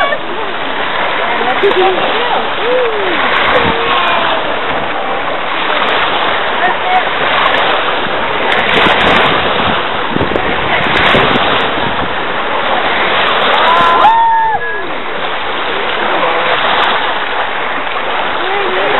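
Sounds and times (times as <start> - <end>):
waves washing on sandy beach: 0.0 - 18.9.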